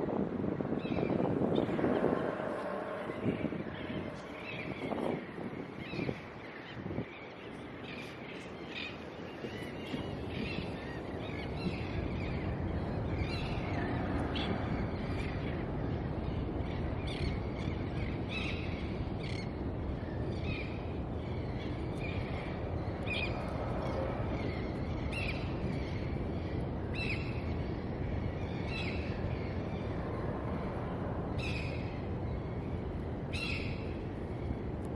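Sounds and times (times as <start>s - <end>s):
rushing outdoor background noise: 0.0s - 34.9s.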